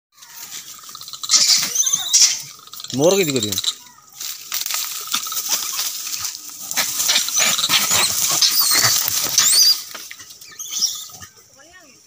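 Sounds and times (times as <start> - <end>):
monkeys squealing and shrieking: 0.2 - 4.1, 4.9 - 11.6
monkeys scuffling: 0.2 - 11.7.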